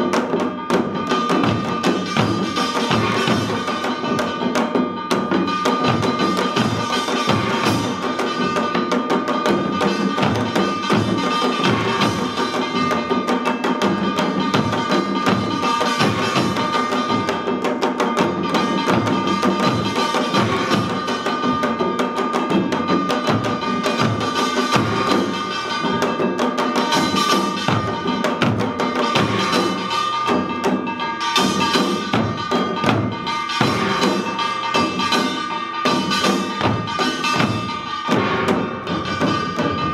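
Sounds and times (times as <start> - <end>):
hourglass drums and barrel drums: 0.0 - 39.9
small gongs ringing: 0.0 - 39.9.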